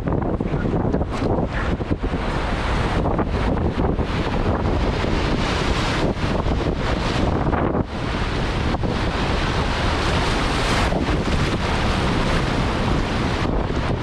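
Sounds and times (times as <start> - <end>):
water rushing: 0.0 - 14.0
wind buffeting microphone: 0.0 - 14.0.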